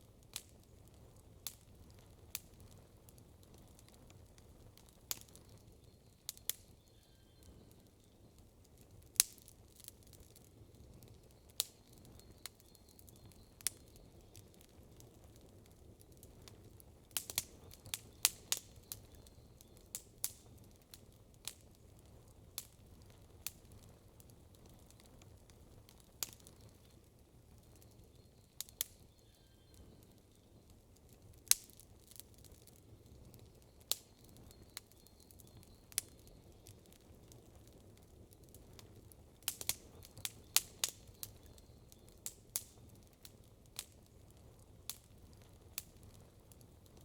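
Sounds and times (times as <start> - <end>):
campfire crackling and popping: 0.0 - 47.0.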